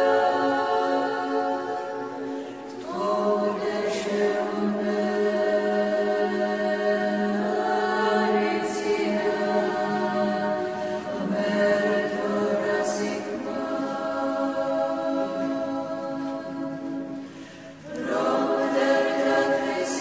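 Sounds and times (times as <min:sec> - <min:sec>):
choir chanting a hymn: 0:00.0 - 0:20.0.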